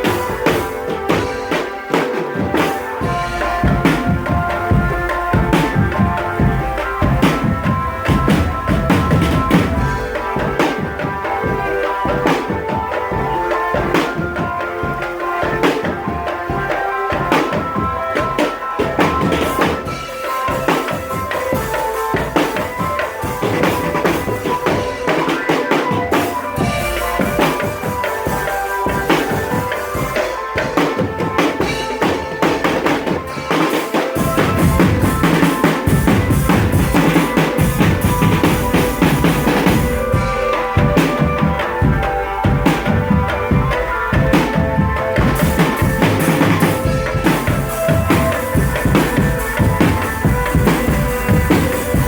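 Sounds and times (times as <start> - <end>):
marching drum band playing: 0.0 - 52.0.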